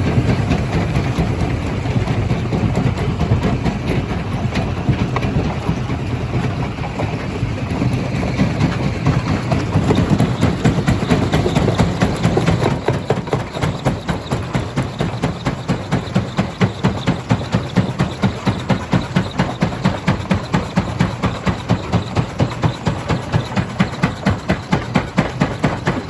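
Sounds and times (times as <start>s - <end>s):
stone crusher rumbling: 0.0s - 26.0s.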